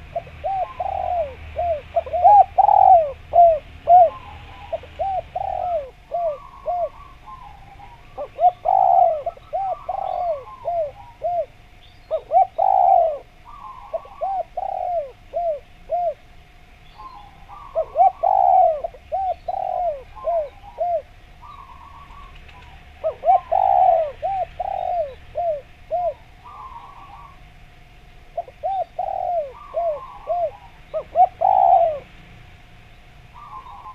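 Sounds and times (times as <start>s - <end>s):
dove cooing: 0.0s - 27.6s, 28.2s - 32.2s, 33.3s - 33.9s.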